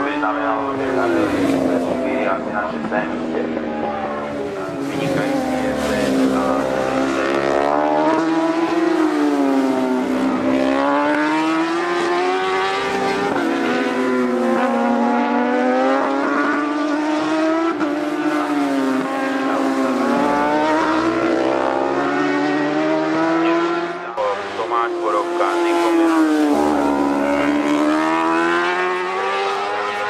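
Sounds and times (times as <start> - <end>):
racing motorcycles passing: 0.0 - 30.0.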